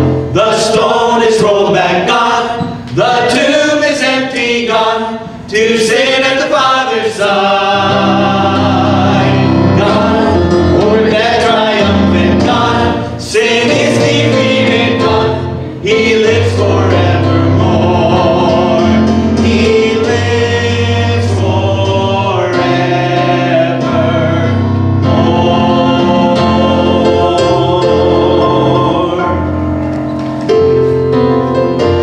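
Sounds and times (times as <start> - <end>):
choir singing a hymn: 0.0 - 29.8.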